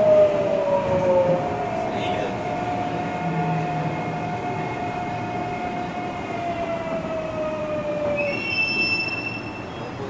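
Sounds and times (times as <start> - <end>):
wheels rumbling on rails: 0.0 - 10.0.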